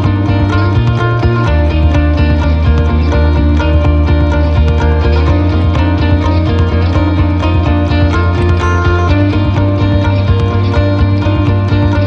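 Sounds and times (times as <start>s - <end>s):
music with plucked strings and bass: 0.0s - 12.0s.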